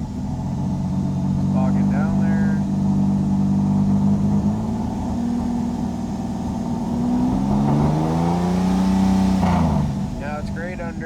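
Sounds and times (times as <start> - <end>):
car engine revving unevenly: 0.0 - 11.0.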